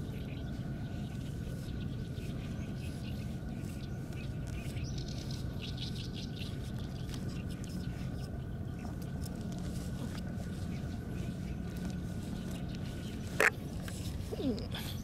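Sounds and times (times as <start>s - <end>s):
faint steady whine: 0.0s - 15.0s
low drone: 0.0s - 15.0s.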